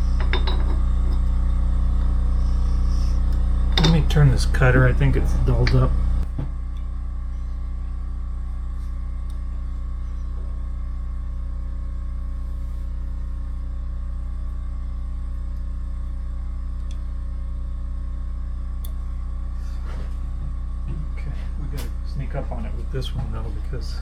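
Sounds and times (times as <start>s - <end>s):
lathe motor humming: 0.0s - 24.0s.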